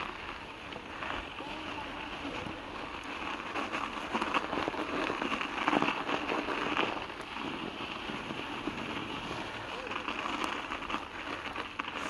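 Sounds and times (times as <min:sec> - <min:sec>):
bike tyres crunching over snow: 0:00.0 - 0:12.0.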